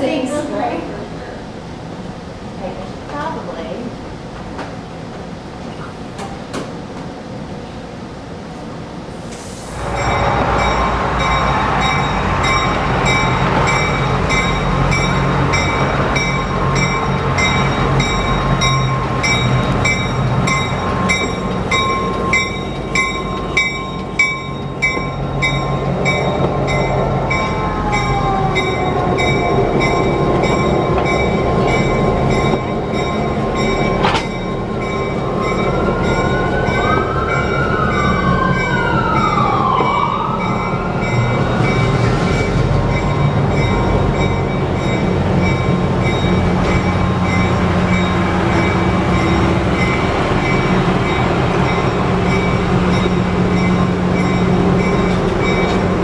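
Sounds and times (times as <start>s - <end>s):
diesel train rumble: 0.0s - 56.0s
train bell ringing: 9.9s - 39.3s, 40.4s - 56.0s.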